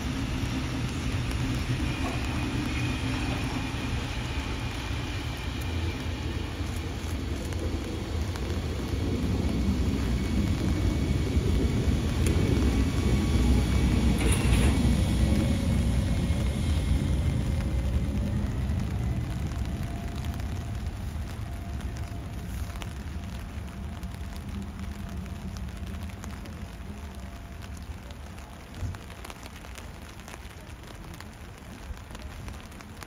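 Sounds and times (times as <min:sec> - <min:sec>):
train rumbling past: 0:00.0 - 0:33.0.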